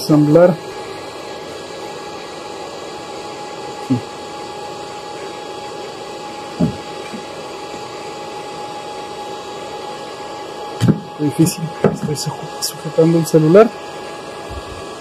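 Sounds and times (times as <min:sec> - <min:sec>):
machine or fan humming: 0:00.0 - 0:15.0.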